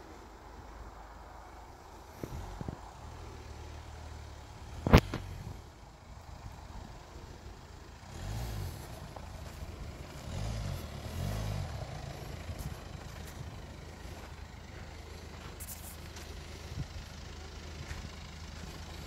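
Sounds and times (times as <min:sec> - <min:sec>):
diesel engine revving under load: 0:02.2 - 0:19.0.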